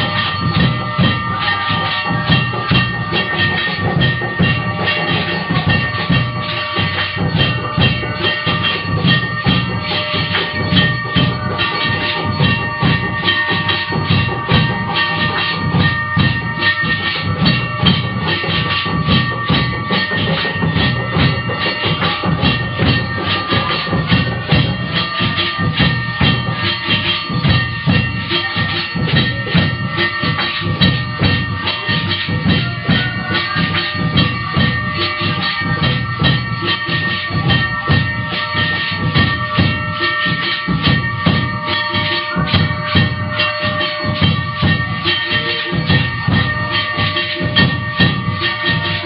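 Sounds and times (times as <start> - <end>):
fast drum rhythm: 0.0 - 49.0
held steady tones: 0.0 - 49.0
jingling percussion: 0.0 - 49.0.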